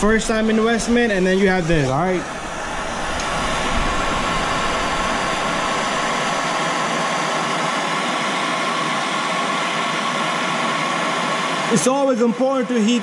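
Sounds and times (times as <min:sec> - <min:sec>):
gas torch hissing: 0:00.0 - 0:11.7.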